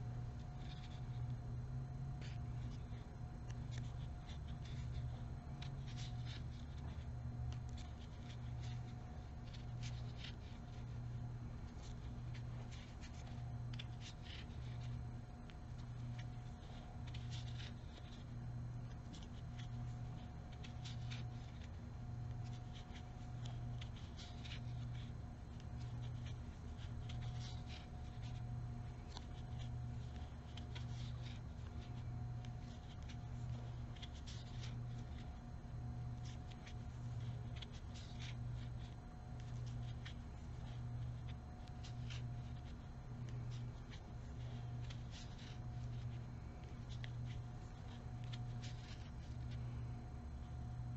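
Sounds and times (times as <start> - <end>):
low pulsing hum: 0.0 - 50.9
crochet hook ticks and scratches: 0.3 - 49.6.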